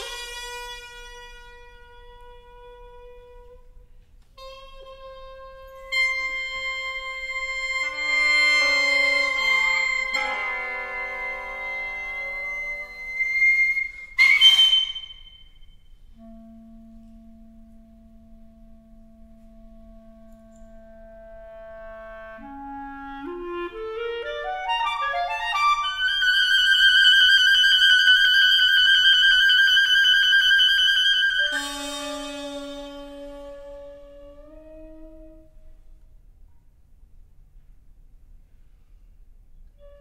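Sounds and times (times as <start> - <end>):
chamber music ensemble: 3.1 - 36.5.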